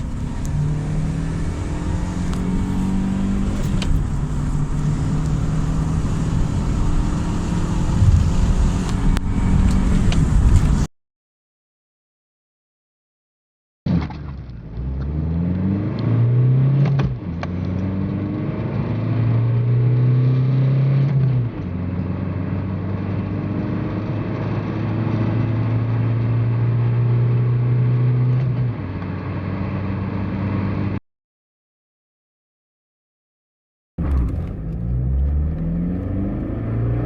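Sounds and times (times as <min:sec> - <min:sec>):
car engine accelerating: 0:00.0 - 0:10.9, 0:14.1 - 0:31.0, 0:34.0 - 0:37.0.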